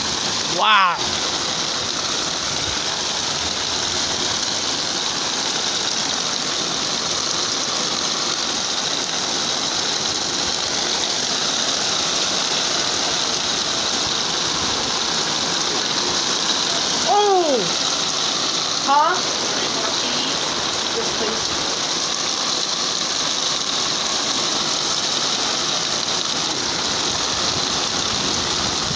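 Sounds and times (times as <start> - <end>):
rain falling steadily: 0.0 - 28.9.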